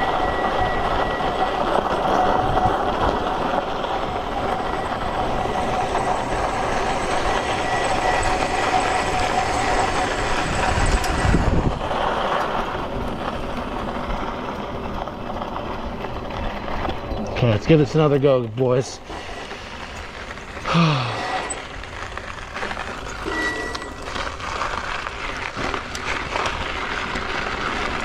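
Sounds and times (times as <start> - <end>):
electric motor whine: 0.0 - 13.7, 19.0 - 28.0
knobby tires on dirt: 0.0 - 28.0
wind: 0.0 - 28.0.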